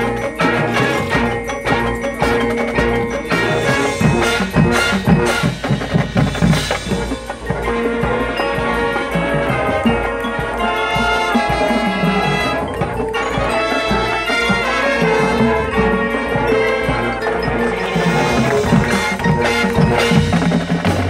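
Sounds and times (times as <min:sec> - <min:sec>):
drums: 0:00.0 - 0:21.0
marching band playing: 0:00.0 - 0:21.0
marimbas and mallet keyboards: 0:00.0 - 0:21.0.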